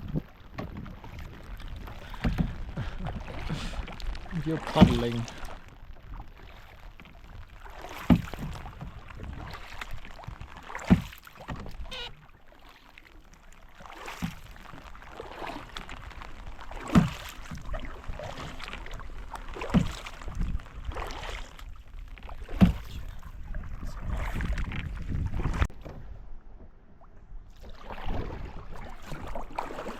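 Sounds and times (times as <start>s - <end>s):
paddle stroke hitting water: 0.0s - 26.2s, 26.9s - 29.9s
soft water sounds: 0.0s - 29.9s.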